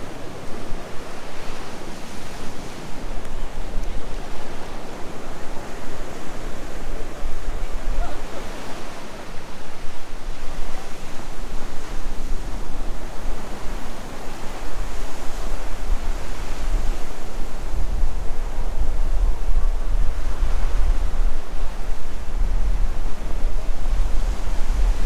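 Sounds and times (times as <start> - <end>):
ocean surf rushing: 0.0 - 25.0
wind rumbling on microphone: 0.0 - 25.0.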